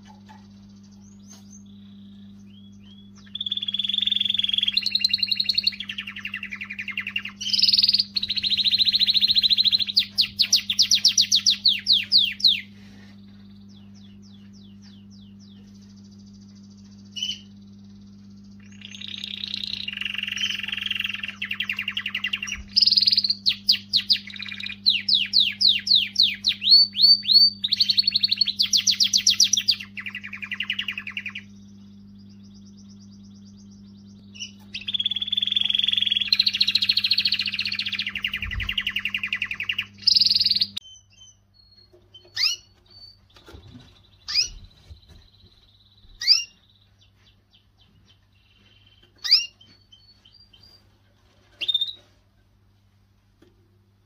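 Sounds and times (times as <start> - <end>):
canary singing trills: 0.0 - 52.2.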